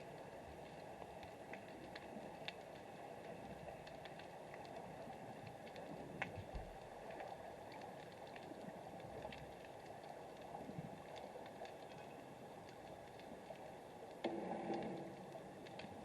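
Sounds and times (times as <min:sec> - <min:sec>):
underwater clicks and crackles: 0:00.0 - 0:16.0.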